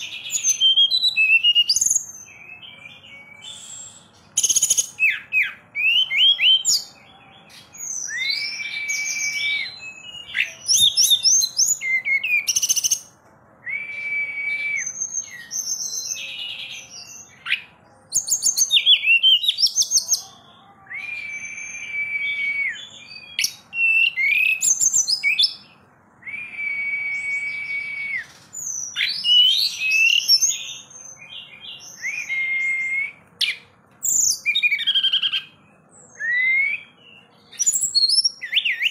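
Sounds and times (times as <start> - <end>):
caged bird singing: 0.0 - 38.9.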